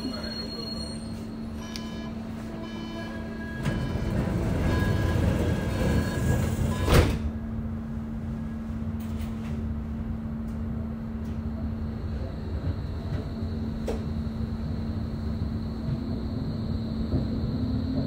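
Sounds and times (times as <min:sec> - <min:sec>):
tram equipment low hum: 0:00.0 - 0:18.0
tram running noise: 0:00.0 - 0:18.0.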